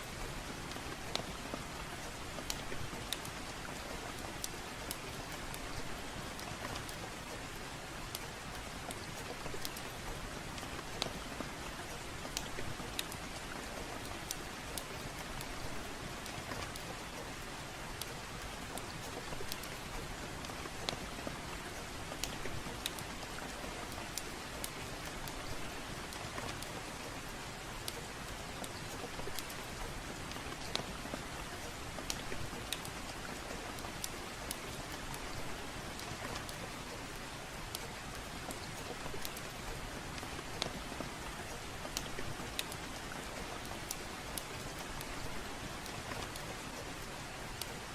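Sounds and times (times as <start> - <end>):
steady rain hiss: 0.0 - 47.9
wood fire crackling: 0.0 - 47.9.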